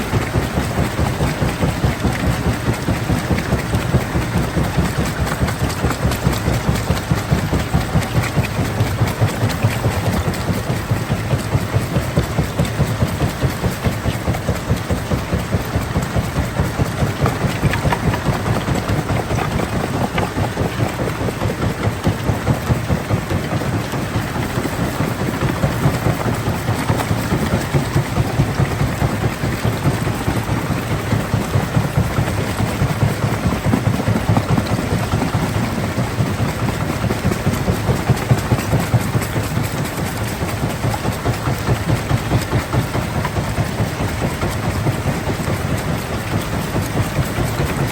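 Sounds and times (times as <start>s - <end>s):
rock crushing machinery rumbling: 0.0s - 47.9s.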